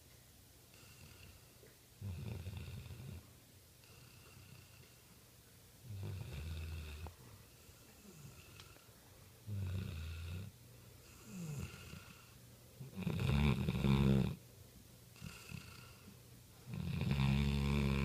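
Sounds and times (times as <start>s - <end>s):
dog snoring: 0.7s - 5.0s, 5.8s - 8.9s, 9.5s - 14.4s, 15.2s - 16.1s, 16.7s - 18.0s
quiet breathing: 0.7s - 14.5s, 15.1s - 18.0s.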